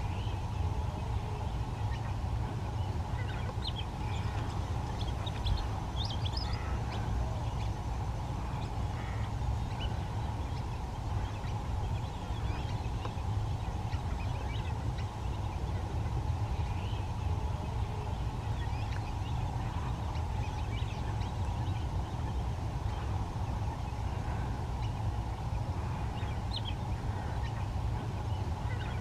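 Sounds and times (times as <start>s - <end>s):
low rumble and hum: 0.0s - 29.0s
small birds chirping: 0.0s - 29.0s.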